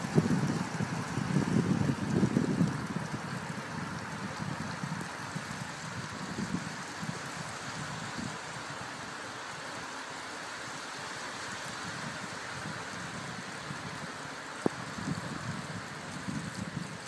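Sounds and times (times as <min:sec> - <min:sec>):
wind on microphone: 0:00.0 - 0:09.1, 0:11.4 - 0:17.0
tyres rolling on wet path: 0:00.0 - 0:17.0.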